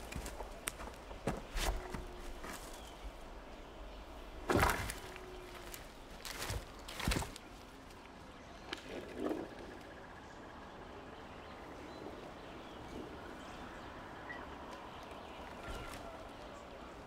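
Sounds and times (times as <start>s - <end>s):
quiet rural ambience: 0.0s - 17.0s.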